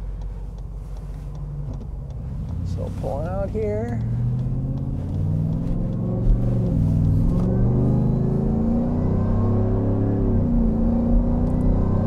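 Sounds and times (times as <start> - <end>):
engine accelerating hard: 1.6 - 12.0.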